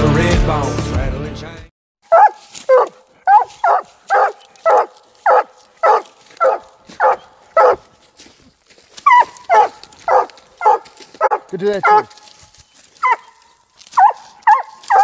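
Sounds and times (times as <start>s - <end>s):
hound barking: 2.0s - 8.3s, 8.9s - 15.0s.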